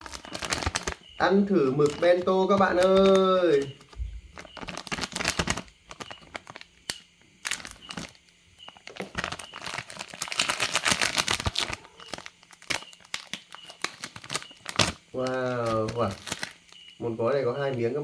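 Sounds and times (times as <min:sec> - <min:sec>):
plastic packet crinkling and tearing: 0:00.0 - 0:17.0.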